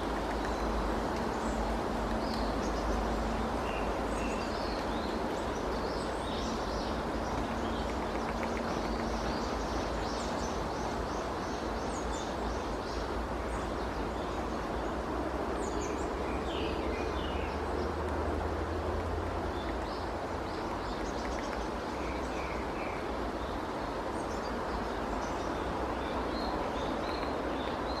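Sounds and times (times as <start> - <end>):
rushing background noise: 0.0 - 28.0.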